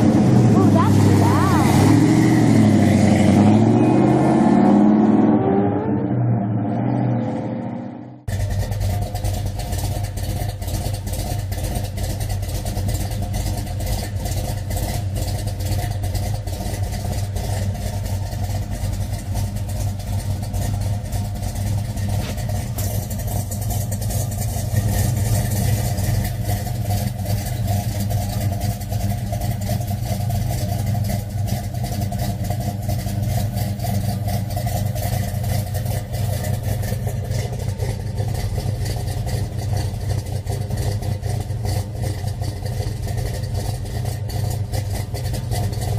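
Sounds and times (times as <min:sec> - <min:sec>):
car engine idling: 0:00.0 - 0:05.3, 0:05.9 - 0:45.9.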